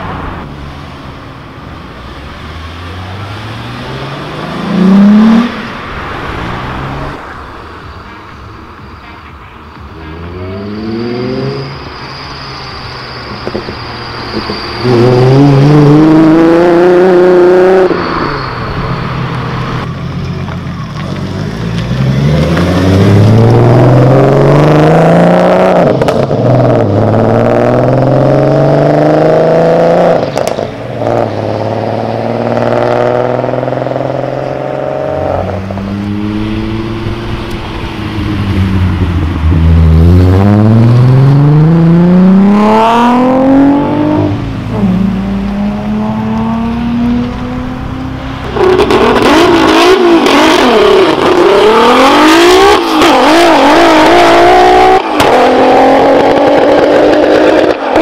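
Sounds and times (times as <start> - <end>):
car engines accelerating hard: 0.0 - 8.0, 9.8 - 58.0.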